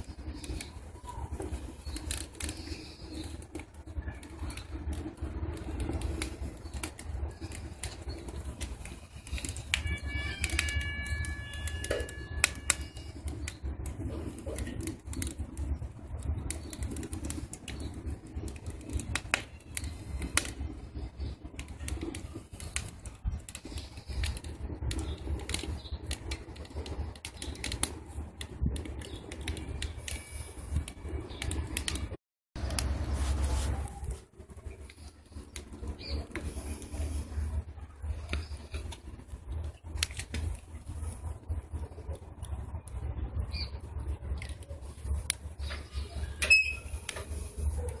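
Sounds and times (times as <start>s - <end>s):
low stove rumble: 0.0s - 48.0s
wood fire crackling and popping: 0.0s - 48.0s.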